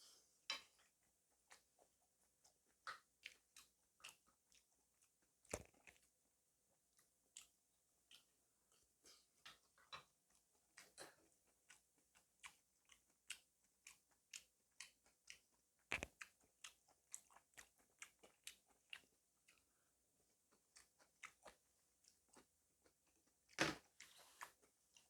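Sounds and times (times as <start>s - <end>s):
mouth chewing clicks and smacks: 0.5s - 6.1s, 6.9s - 19.8s, 20.4s - 25.0s.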